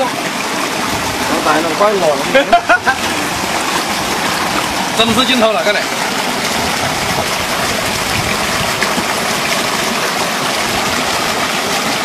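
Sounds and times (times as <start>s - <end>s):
water rushing down stony channel: 0.0s - 12.0s.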